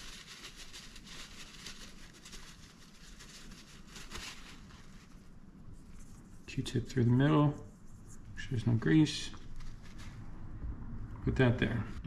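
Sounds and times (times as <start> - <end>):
paper towel rustling and rubbing: 0.0 - 10.5.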